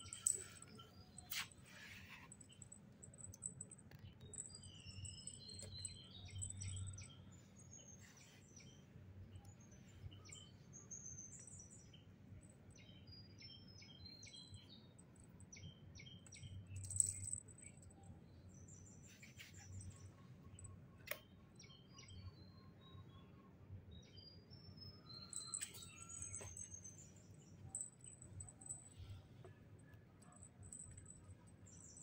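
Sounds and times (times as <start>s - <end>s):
small birds chirping: 0.0s - 23.2s, 23.9s - 29.6s.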